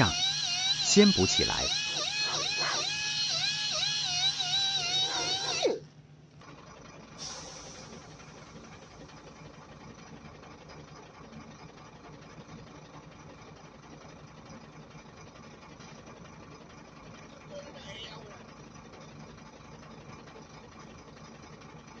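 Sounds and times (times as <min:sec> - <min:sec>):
motor humming: 0:00.0 - 0:22.0.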